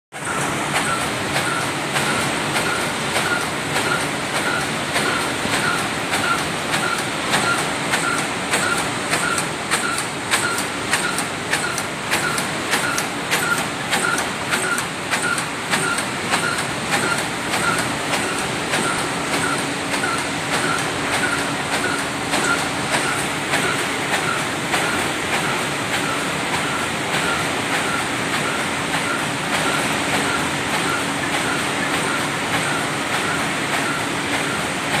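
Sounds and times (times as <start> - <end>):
machine clattering and clacking: 0.1 - 35.0.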